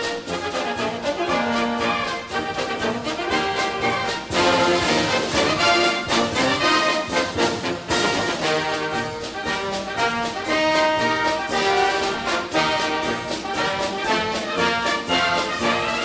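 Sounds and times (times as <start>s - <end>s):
brass and orchestral music: 0.0s - 16.0s.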